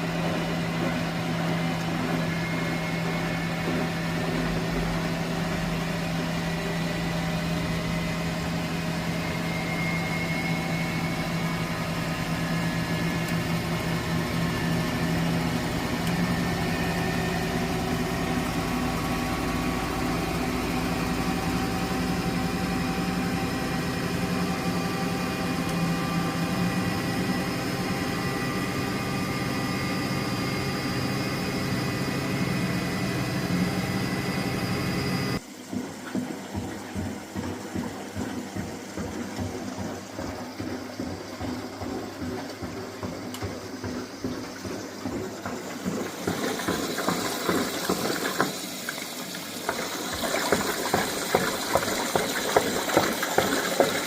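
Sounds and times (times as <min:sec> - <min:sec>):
washing machine motor humming: 0:00.0 - 0:54.0.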